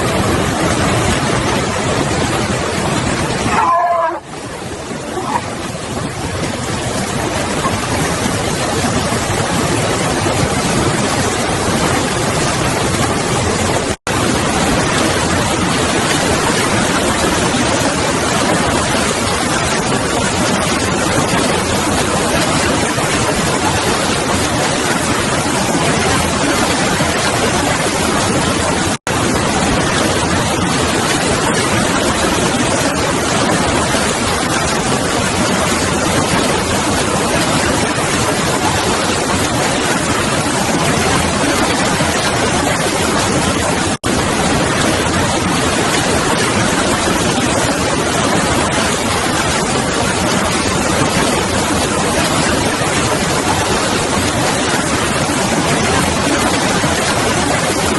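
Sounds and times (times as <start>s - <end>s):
floodwater rushing: 0.0s - 57.9s.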